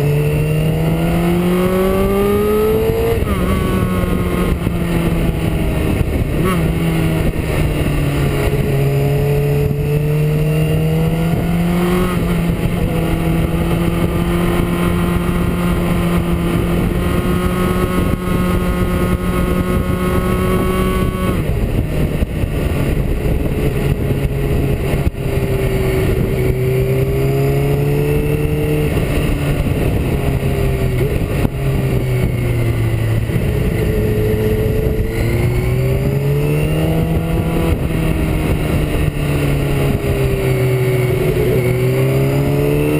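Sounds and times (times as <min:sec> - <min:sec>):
motorcycle engine running: 0:00.0 - 0:42.9
wind rushing: 0:00.0 - 0:42.9.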